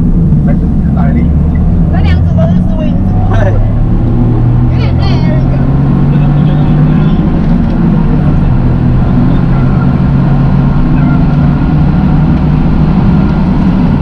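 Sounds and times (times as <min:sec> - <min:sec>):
car engine running: 0:00.0 - 0:14.0
road and wind noise: 0:00.0 - 0:14.0.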